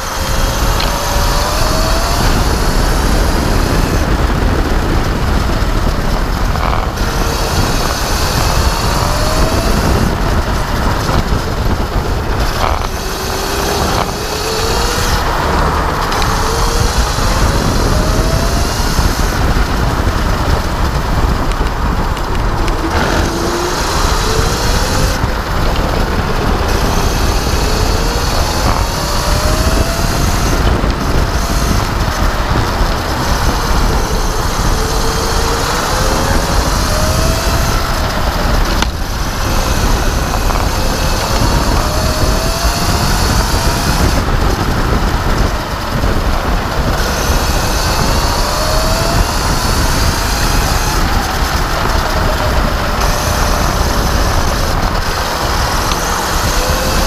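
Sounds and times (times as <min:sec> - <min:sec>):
electric motor whine: 0:00.0 - 0:57.0
wind and tyre rumble: 0:00.0 - 0:57.0.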